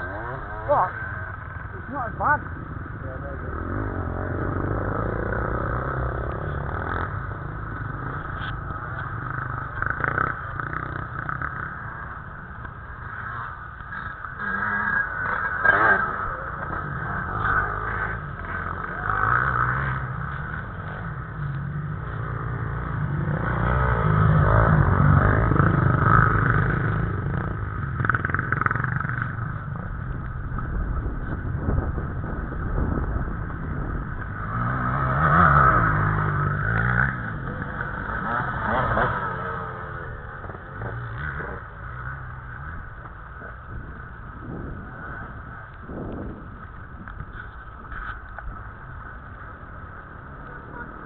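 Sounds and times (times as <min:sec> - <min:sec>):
dirt bikes revving past: 0:00.0 - 0:51.0.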